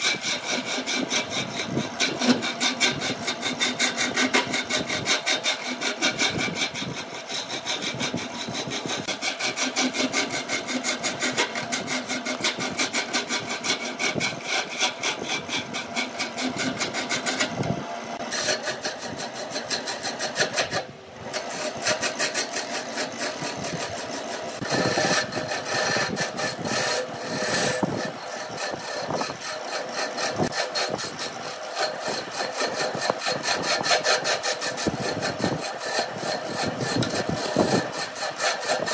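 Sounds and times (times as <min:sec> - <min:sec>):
chisel scraping wood on lathe: 0:00.0 - 0:38.9.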